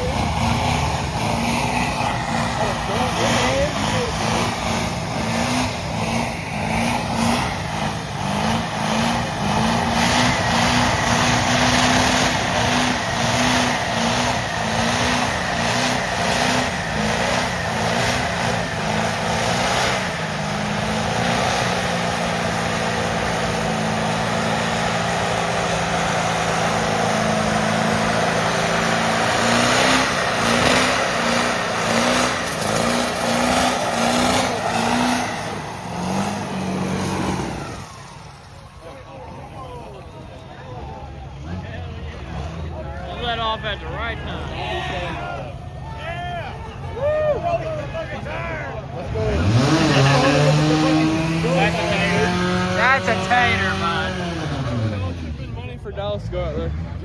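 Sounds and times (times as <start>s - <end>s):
vehicle engine loping idle: 0.0s - 57.0s.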